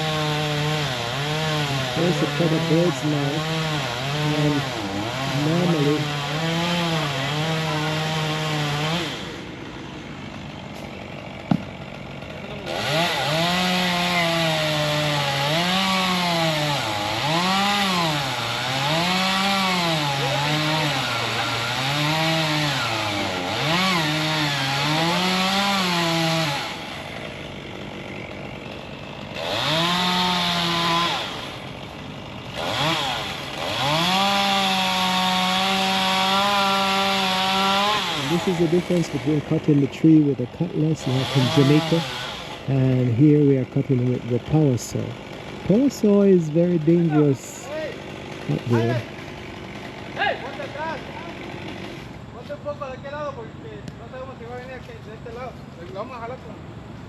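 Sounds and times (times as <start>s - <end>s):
chainsaw cutting wood: 0.0s - 52.6s.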